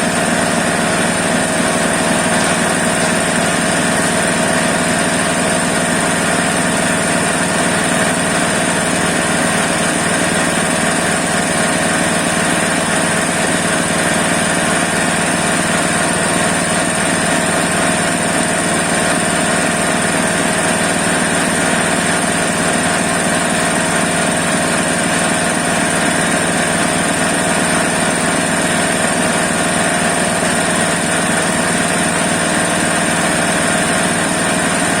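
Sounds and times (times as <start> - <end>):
grass chopper running: 0.0 - 35.0.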